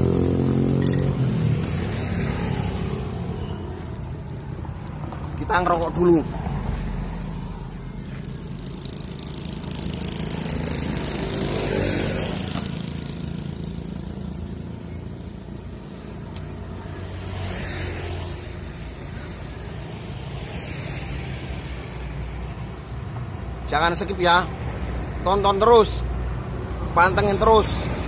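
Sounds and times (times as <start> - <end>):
vehicle passing: 0.0 - 23.6
low traffic rumble: 0.0 - 28.0.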